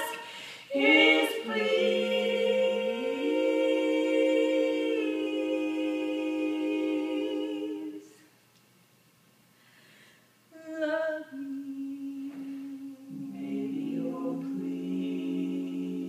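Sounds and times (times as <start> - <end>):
women singing a cappella: 0.0 - 8.4, 10.5 - 16.0.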